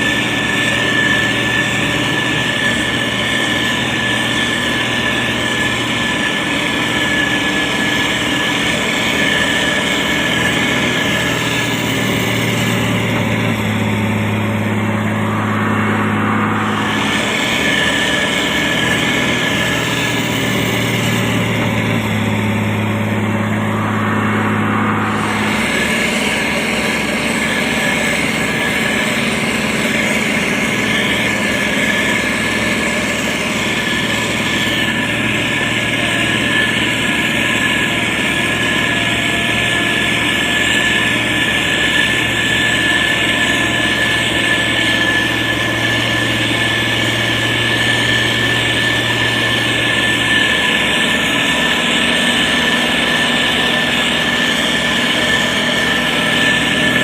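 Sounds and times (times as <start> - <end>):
diesel engine running under load: 0.0 - 57.0
steady high-pitched tone: 0.0 - 57.0.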